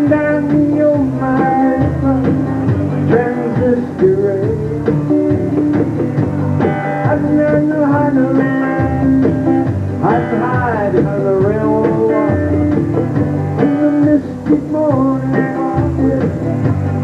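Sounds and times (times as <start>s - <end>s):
bass guitar: 0.0s - 17.0s
conga drums: 0.0s - 17.0s
strummed acoustic guitar: 0.0s - 17.0s.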